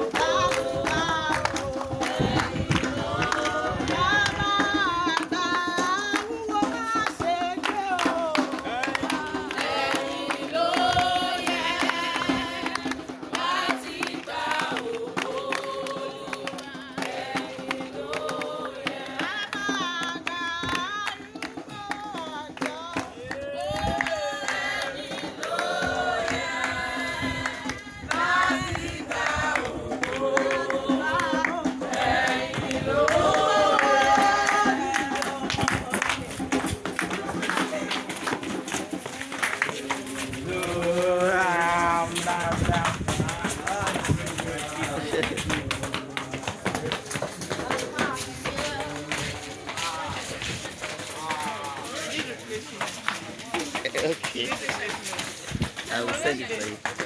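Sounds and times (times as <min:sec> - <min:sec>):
group of people singing: 0:00.0 - 0:52.7.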